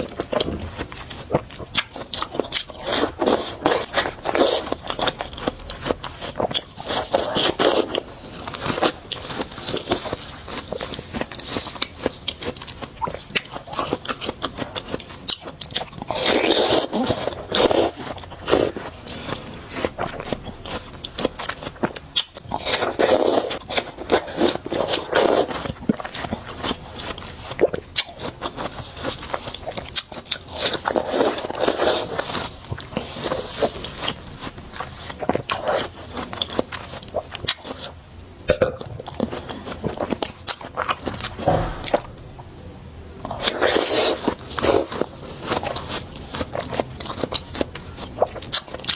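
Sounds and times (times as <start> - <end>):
juicy crunching chewing: 0.0 - 42.4, 43.2 - 48.9.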